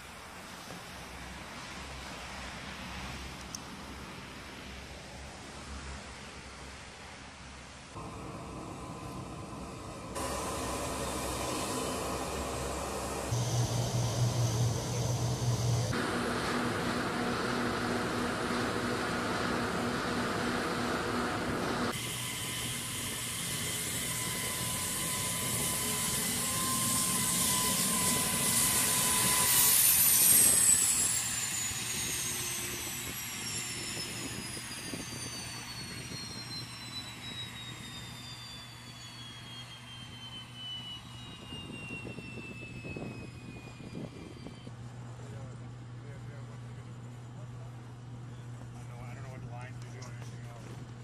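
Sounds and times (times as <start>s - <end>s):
turboprop engines winding down: 7.9s - 50.5s.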